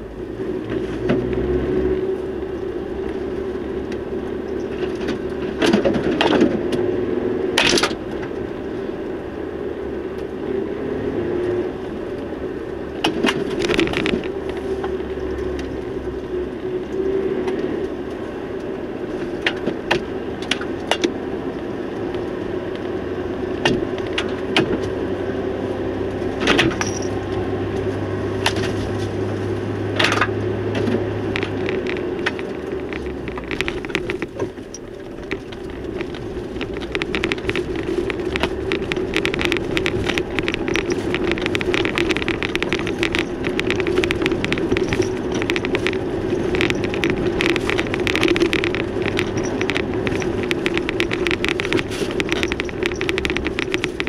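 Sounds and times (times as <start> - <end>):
stones crackling under tyres: 0.0 - 54.0
vehicle engine and tyre noise: 0.0 - 54.0.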